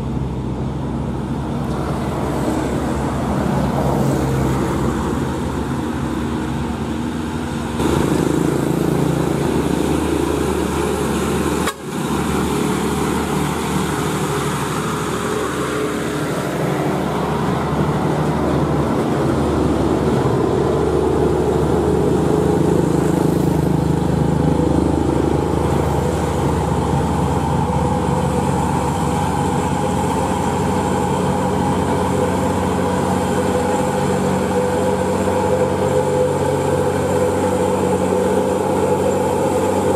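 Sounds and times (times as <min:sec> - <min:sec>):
heavy diesel trucks climbing: 0:00.0 - 0:39.9
motorcycles passing: 0:01.2 - 0:39.9.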